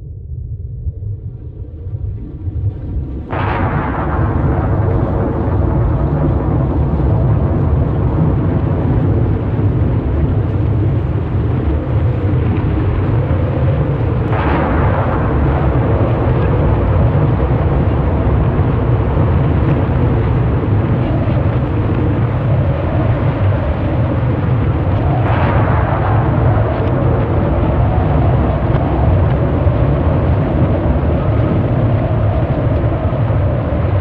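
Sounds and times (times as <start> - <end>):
wind rumble: 0.0 - 34.0
heavy surf crashing: 3.6 - 34.0.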